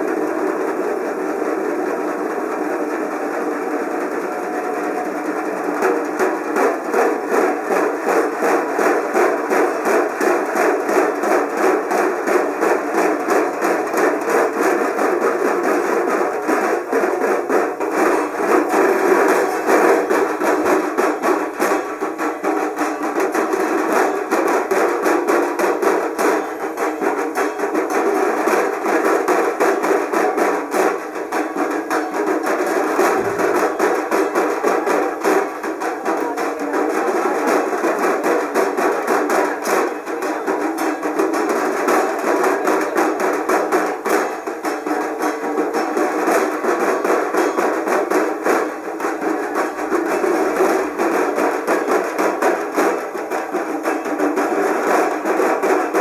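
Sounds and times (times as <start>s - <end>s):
rapid percussion music: 0.0s - 56.0s.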